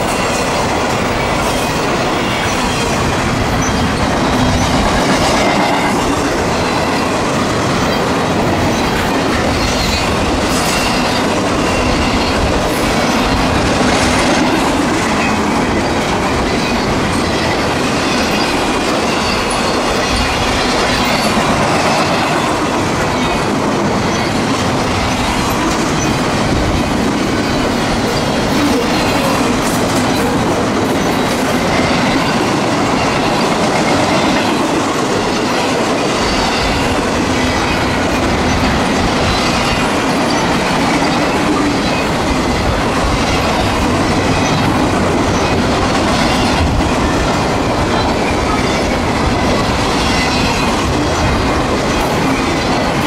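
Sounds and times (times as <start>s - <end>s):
clickety-clack over rail joints: 0.0s - 53.0s
train wheels rumbling on rail: 0.0s - 53.0s.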